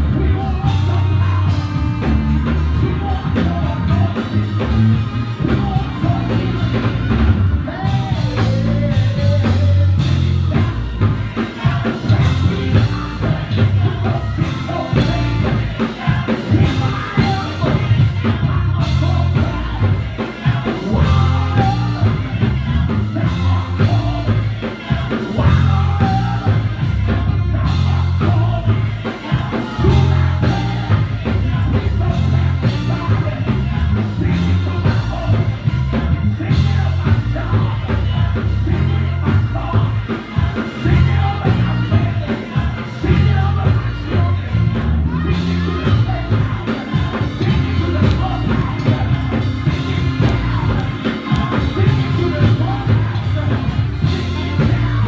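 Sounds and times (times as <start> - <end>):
drum kit: 0.0 - 55.0
people singing worship music: 0.0 - 55.0
pulsing bass line: 0.0 - 55.0.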